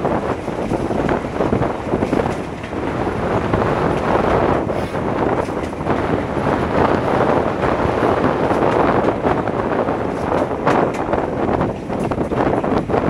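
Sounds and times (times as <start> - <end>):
train running: 0.0 - 13.0
wind buffeting microphone: 0.0 - 13.0.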